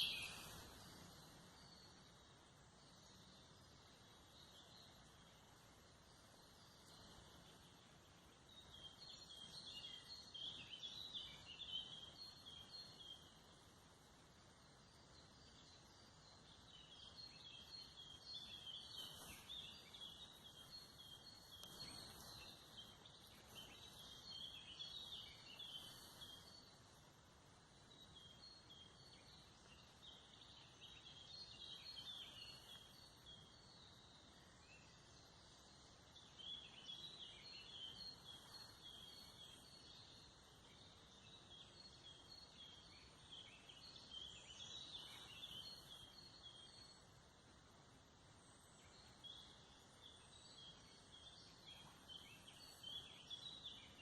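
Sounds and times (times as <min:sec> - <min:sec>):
soft background hiss: 0:00.0 - 0:54.0.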